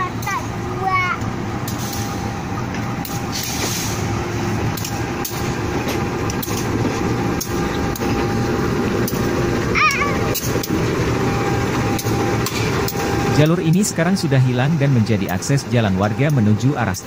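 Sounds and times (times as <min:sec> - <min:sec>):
locomotive engine droning: 0:00.0 - 0:17.0
wheels clicking on track: 0:00.0 - 0:17.0.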